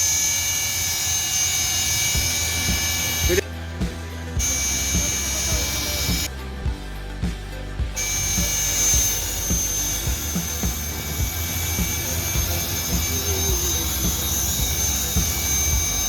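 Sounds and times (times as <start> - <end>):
rc helicopter motor whine: 0.0 - 3.5, 4.4 - 6.3, 8.0 - 16.0
rotor rumble: 0.0 - 16.0.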